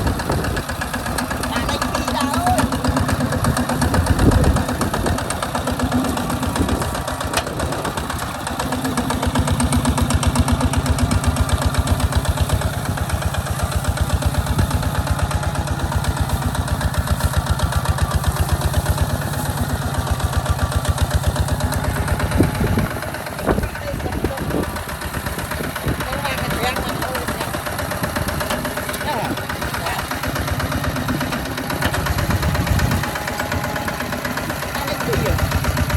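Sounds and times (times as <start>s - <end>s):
tractor diesel engine chugging: 0.0s - 35.9s.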